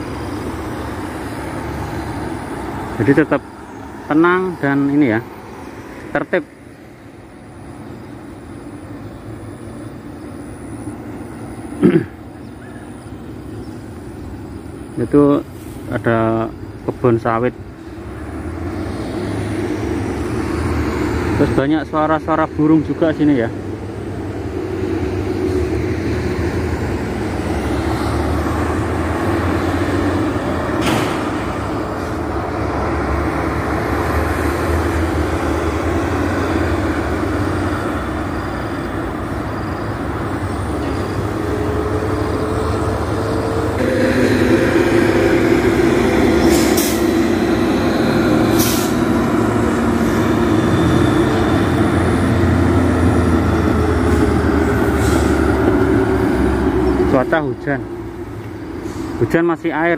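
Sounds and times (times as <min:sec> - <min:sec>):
heavy lorries passing: 0:00.0 - 0:59.9
road traffic drone: 0:00.0 - 0:59.9.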